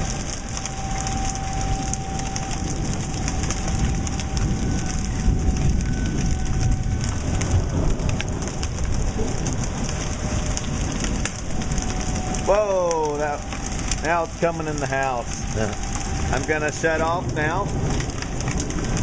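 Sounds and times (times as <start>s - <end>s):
hailstones clattering on deck: 0.0s - 19.0s
heavy rain hiss: 0.0s - 19.0s.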